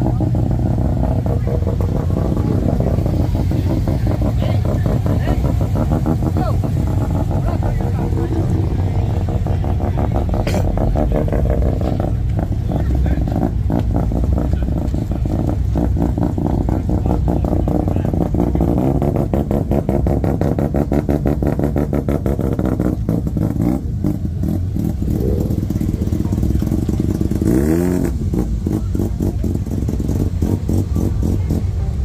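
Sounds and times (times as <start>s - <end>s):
engine idling with choppy beat: 0.0s - 32.0s
engine revving: 0.0s - 32.0s.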